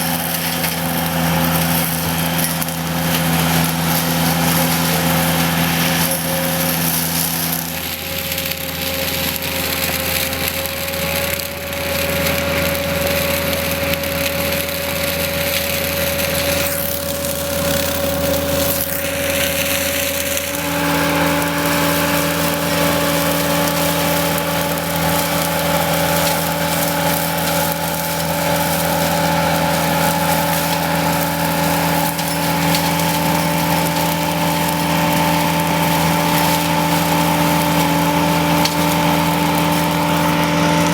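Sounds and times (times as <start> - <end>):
hydraulic attachment working: 0.0 - 40.9
skid steer engine running: 0.0 - 40.9.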